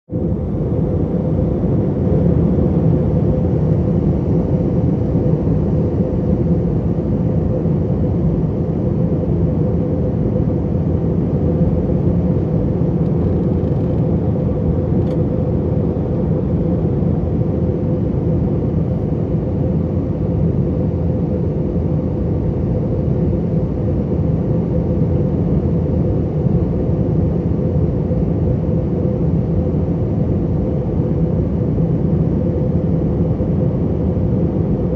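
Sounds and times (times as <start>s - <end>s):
low rumble of engines and airflow: 0.1s - 34.9s
steady hum: 0.1s - 34.9s.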